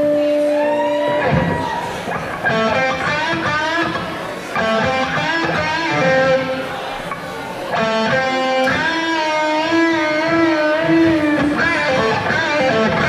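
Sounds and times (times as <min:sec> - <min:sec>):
bending lead guitar line: 0:00.0 - 0:13.0
blues-rock band playing: 0:00.0 - 0:13.0.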